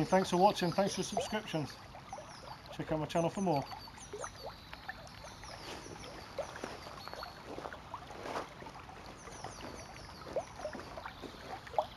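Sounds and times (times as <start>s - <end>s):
birds chirping: 0.0s - 7.7s, 9.1s - 11.9s.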